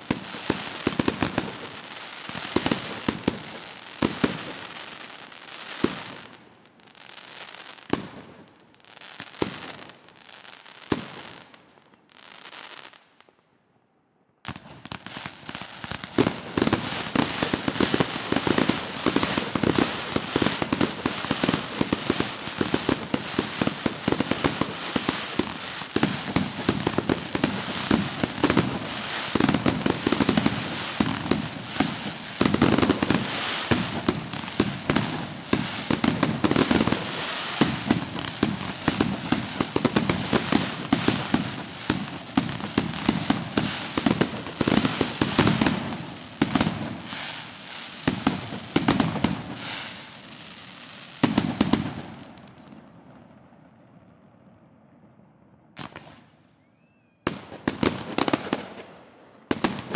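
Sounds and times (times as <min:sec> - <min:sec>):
firework bangs and cracks: 0:00.0 - 0:13.4, 0:14.4 - 0:55.2, 0:55.8 - 0:56.4, 0:57.3 - 0:59.9.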